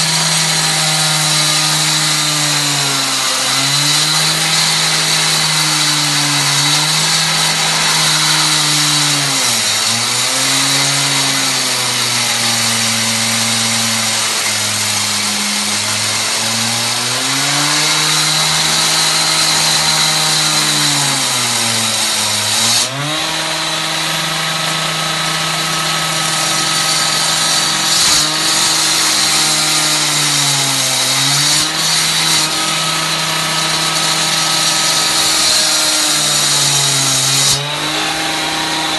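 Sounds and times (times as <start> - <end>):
cut-off saw running: 0.0 - 38.9.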